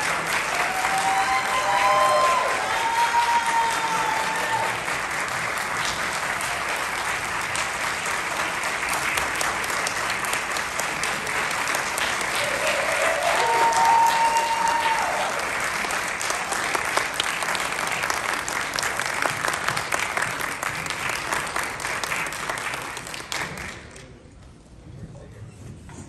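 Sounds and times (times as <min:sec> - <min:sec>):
crowd cheering: 0:00.0 - 0:22.2
audience applauding: 0:00.0 - 0:24.2.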